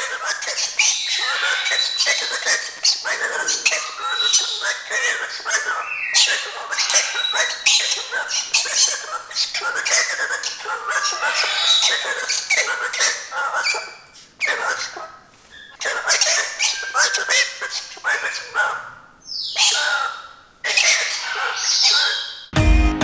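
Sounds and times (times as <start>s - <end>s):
cockatoo screeching: 0.0s - 22.5s.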